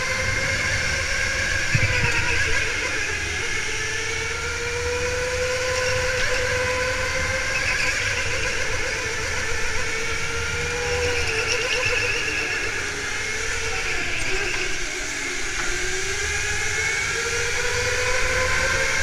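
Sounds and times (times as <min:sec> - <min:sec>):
electric go-kart motor whining: 0:00.0 - 0:19.0.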